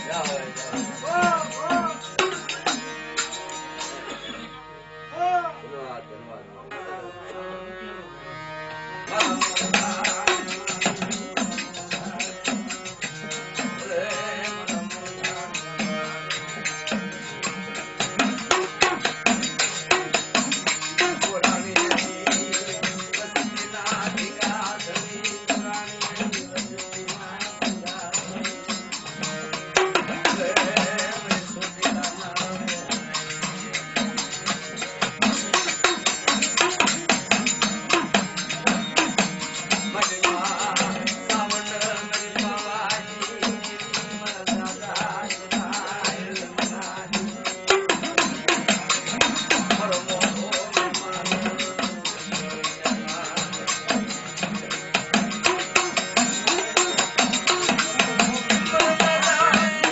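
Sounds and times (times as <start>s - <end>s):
held melodic tones: 0.0s - 59.9s.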